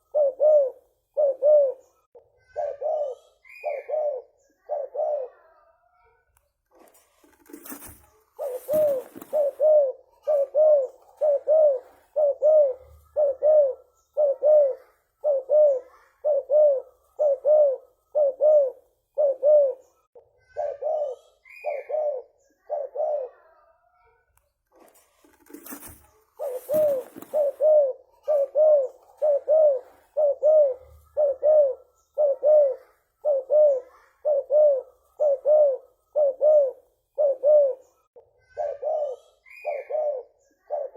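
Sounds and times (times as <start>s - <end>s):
dove cooing: 0.0s - 5.6s, 7.2s - 23.6s, 25.3s - 40.9s.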